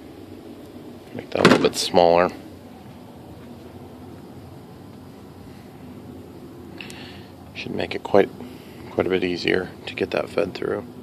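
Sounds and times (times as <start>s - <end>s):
room tone hiss: 0.0s - 11.0s.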